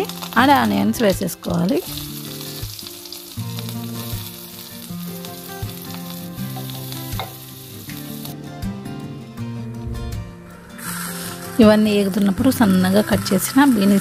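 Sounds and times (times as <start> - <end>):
vegetables sizzling in hot oil: 0.0 - 8.5, 10.6 - 14.0
low background melody: 0.0 - 14.0.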